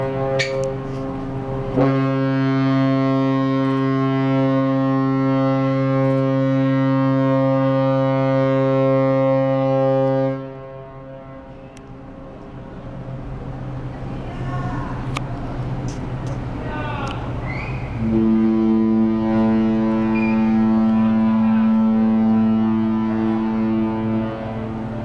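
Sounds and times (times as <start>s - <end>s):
ship's horn deep blast: 0.0s - 25.0s.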